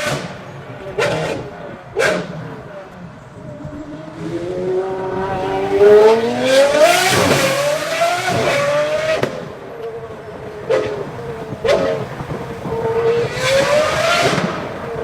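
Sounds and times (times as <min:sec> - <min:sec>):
car engine revving hard: 0:00.0 - 0:02.8, 0:03.7 - 0:09.5, 0:10.6 - 0:15.0.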